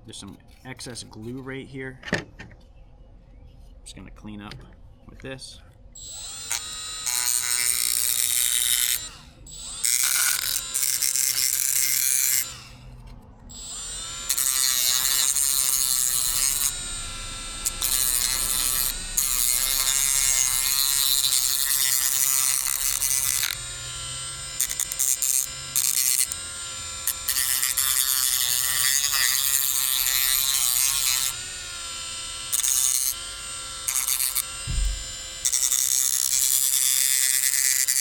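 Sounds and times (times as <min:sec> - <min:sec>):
rotary tool grinding plastic: 0:06.0 - 0:38.0.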